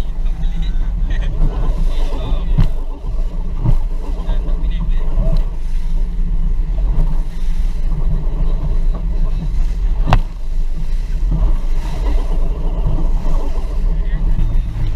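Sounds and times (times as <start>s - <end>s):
boat engine drone: 0.0s - 14.9s
wind and water rushing: 0.0s - 14.9s.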